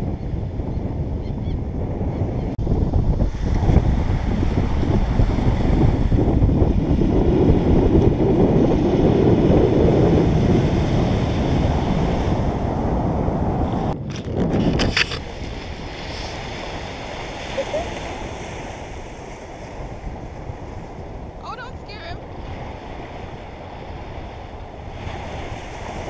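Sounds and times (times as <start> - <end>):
wind buffeting microphone: 0.0 - 26.0
small waves washing onto beach: 3.2 - 26.0.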